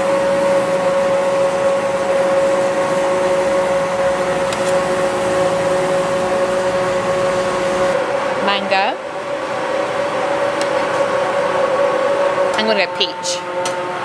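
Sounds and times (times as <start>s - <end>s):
motor or fan humming: 0.0s - 14.0s.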